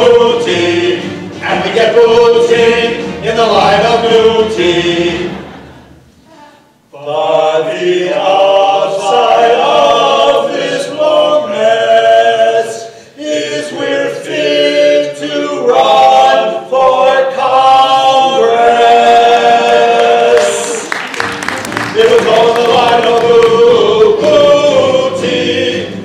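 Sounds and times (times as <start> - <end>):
men singing together: 0.0 - 5.6, 7.0 - 20.9, 21.9 - 26.0.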